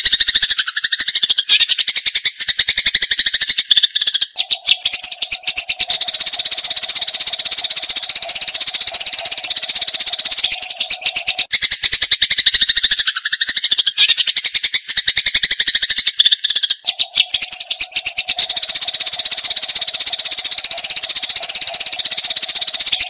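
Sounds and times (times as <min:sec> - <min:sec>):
sparrows chattering: 0:00.0 - 0:23.0.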